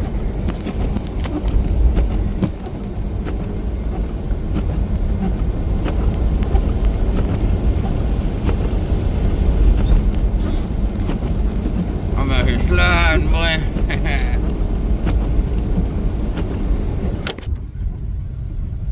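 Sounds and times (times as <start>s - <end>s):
car engine and road noise: 0.0s - 18.9s.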